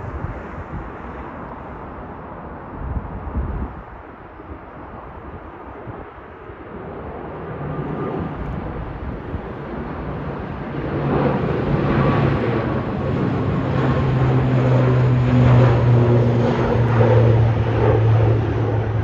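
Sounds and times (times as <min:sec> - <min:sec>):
aircraft engines humming: 0:00.0 - 0:19.0
wind buffeting microphone: 0:00.0 - 0:19.0.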